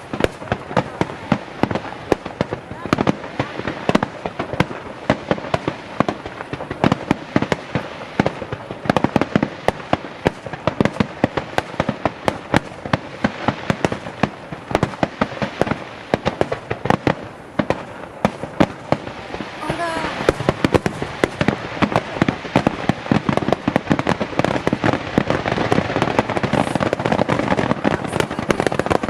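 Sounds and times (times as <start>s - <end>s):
fireworks banging: 0.0s - 29.0s.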